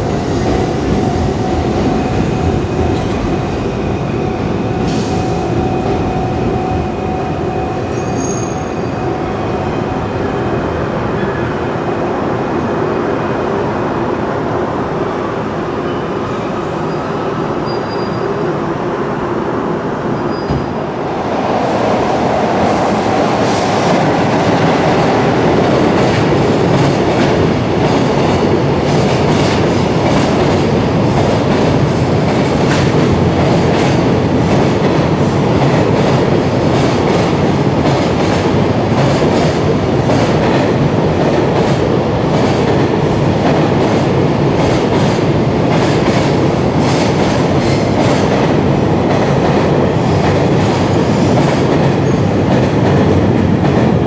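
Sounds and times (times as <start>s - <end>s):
freight train rumbling: 0.0s - 54.0s.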